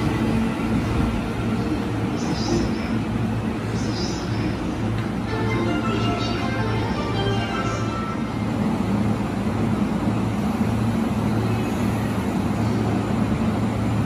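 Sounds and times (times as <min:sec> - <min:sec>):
electric train low hum: 0:00.0 - 0:14.0.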